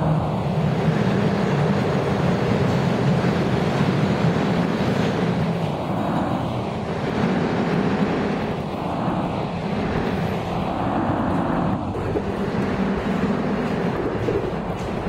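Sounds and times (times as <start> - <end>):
subway train rumbling in tunnel: 0.0 - 15.0.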